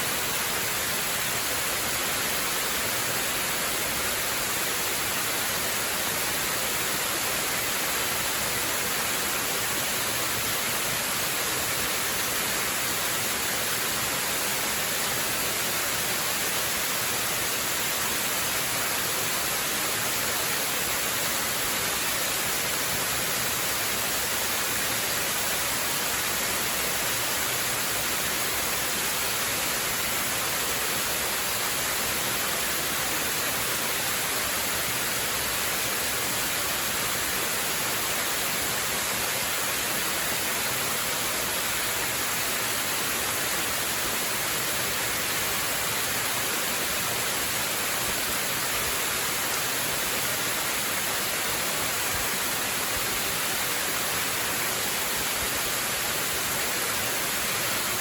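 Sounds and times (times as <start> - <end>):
waterfall pouring into pool: 0.0 - 58.0.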